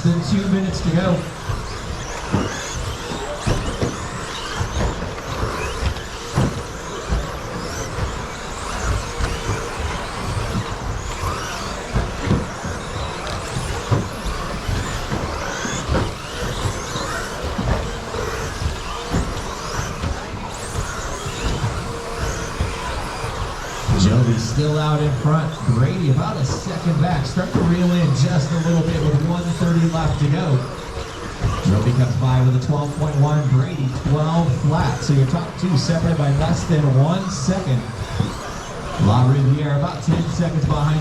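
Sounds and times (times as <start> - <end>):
electric motors whining: 0.0 - 41.0.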